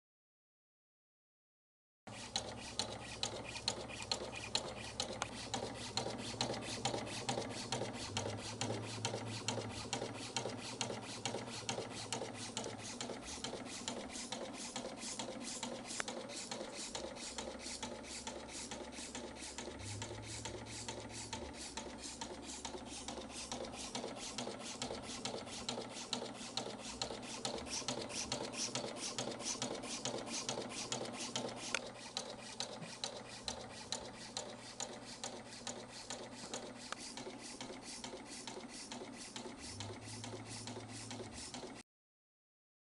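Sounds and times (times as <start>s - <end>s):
motor hum: 2.1s - 41.8s.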